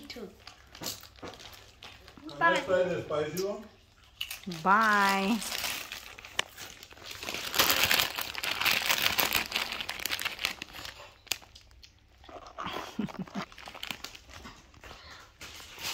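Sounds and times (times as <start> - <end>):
crinkling and rustling: 0.0 - 2.9, 4.0 - 15.9.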